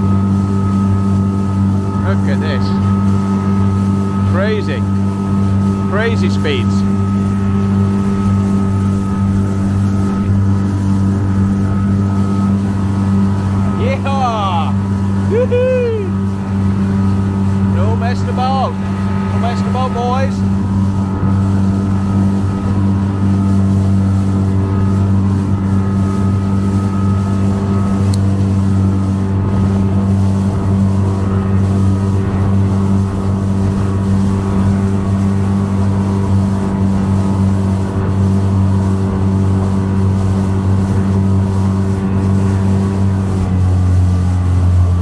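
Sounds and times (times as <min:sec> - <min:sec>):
motorboat engine droning: 0:00.0 - 0:45.0.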